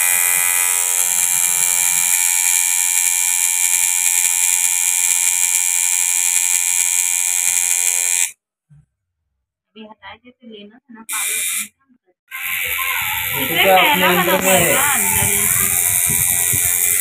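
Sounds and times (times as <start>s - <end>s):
tattoo machine buzzing: 0.0s - 8.4s, 11.1s - 17.0s.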